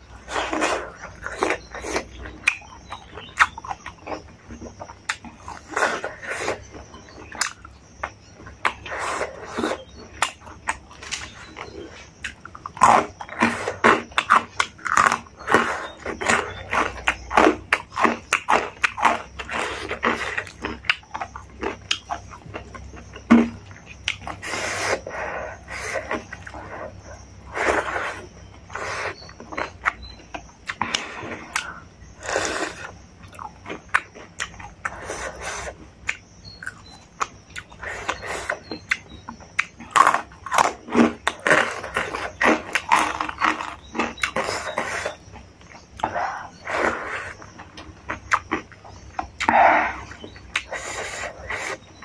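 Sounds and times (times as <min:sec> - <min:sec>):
crunching of fried snacks: 0:00.0 - 0:52.0
wet chewing and lip smacks: 0:00.1 - 0:52.0.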